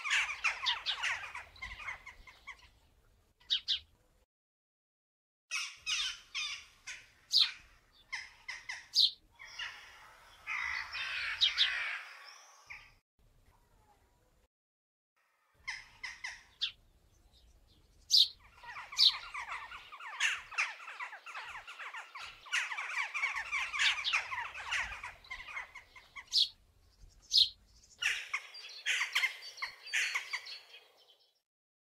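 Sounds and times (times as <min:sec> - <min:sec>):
birds chattering: 0:00.0 - 0:02.8, 0:03.4 - 0:03.9, 0:05.5 - 0:13.0, 0:15.6 - 0:31.2
sharp bird calls: 0:00.0 - 0:02.8, 0:03.4 - 0:03.9, 0:05.5 - 0:13.0, 0:15.5 - 0:31.3.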